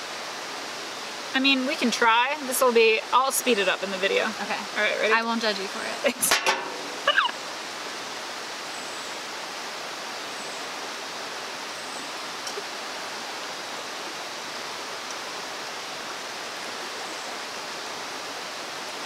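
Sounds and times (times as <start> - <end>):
brook water rushing: 0.0 - 19.0.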